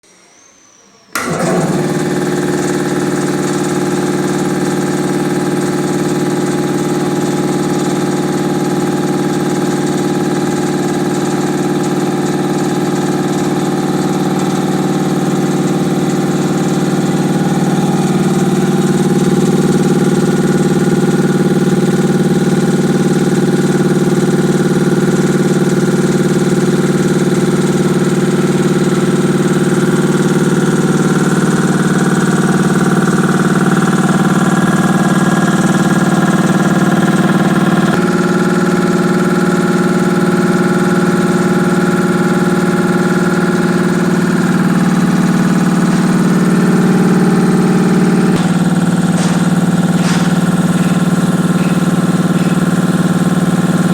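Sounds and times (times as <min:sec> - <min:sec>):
piston air compressor running: 0:01.1 - 0:53.9.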